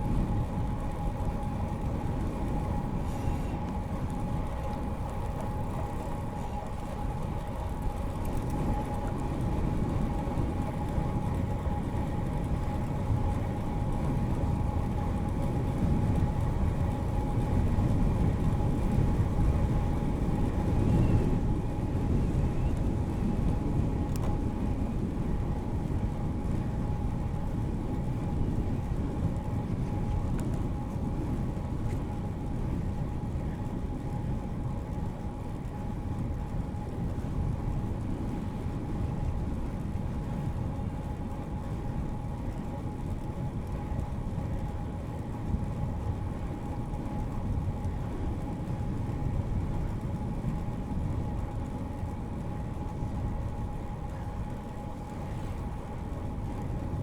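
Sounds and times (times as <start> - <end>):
faint steady whine: 0.0 - 57.0
wind and tyre rumble: 0.0 - 57.0.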